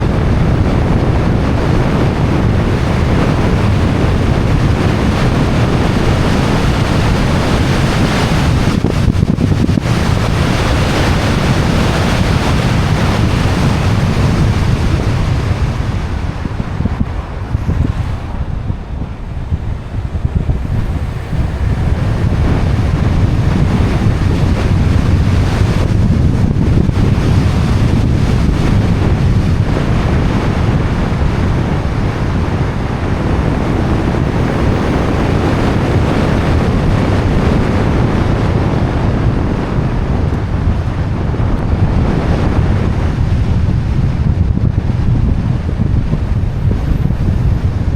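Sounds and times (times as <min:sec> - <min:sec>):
car rumbling on road: 0:00.0 - 0:47.9
wind buffeting microphone: 0:00.0 - 0:47.9.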